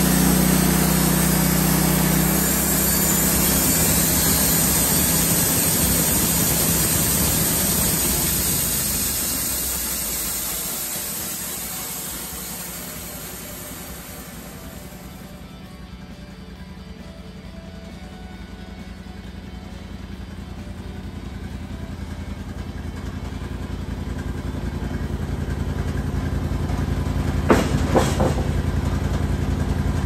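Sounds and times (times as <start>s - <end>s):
band sawmill engine running: 0.0s - 30.0s.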